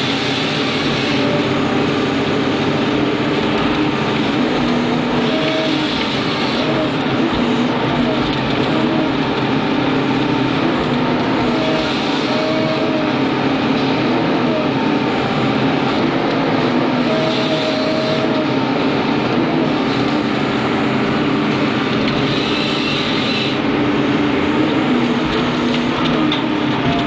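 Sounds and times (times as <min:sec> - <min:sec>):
engine and hydraulic drone: 0:00.0 - 0:27.0
whine shifting in pitch: 0:00.0 - 0:27.0.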